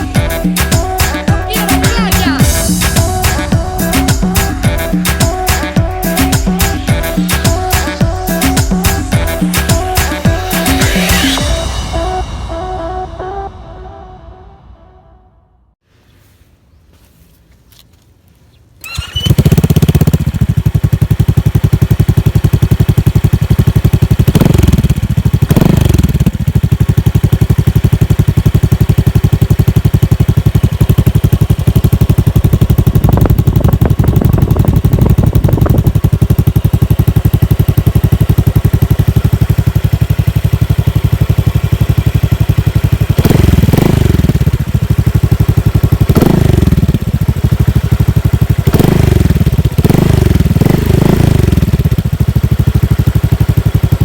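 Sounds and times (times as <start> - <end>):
scooter engine idling: 0.0 - 11.9, 18.6 - 54.0.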